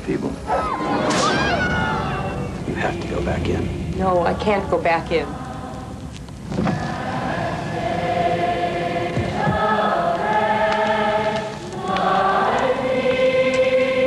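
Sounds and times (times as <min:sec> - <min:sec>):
choir singing sustained chords: 0:00.4 - 0:14.0.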